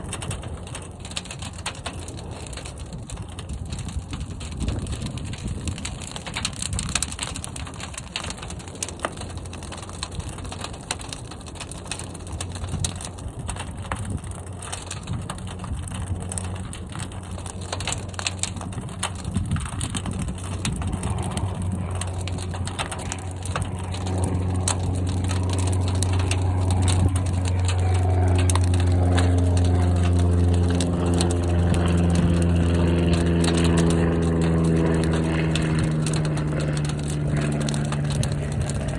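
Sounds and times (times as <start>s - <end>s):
fire crackling and popping: 0.0s - 38.9s
low rumble: 0.0s - 38.9s.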